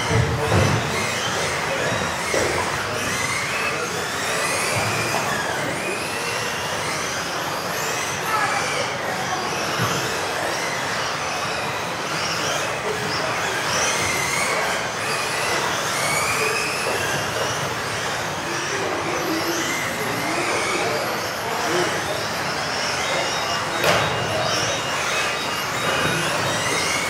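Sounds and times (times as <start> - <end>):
rc car motors whining: 0.0 - 27.0.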